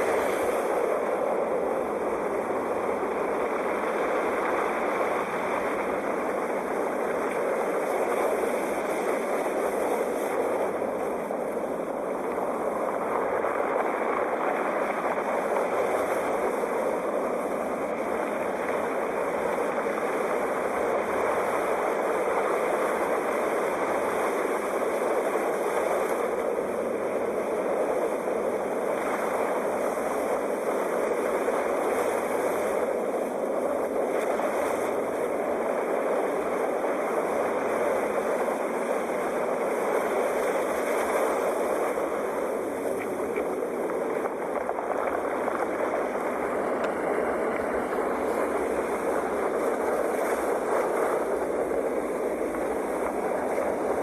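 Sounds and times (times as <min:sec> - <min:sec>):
sea waves: 0:00.0 - 0:54.0.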